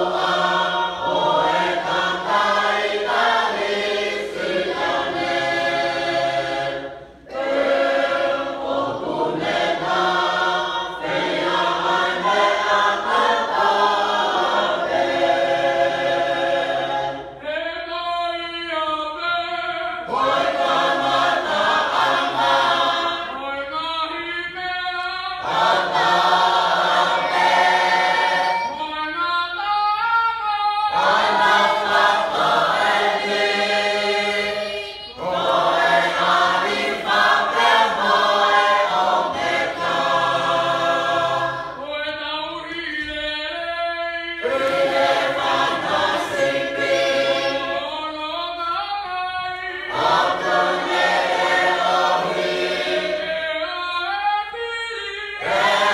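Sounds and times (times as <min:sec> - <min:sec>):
youth choir chanting a hymn: 0:00.0 - 0:55.9.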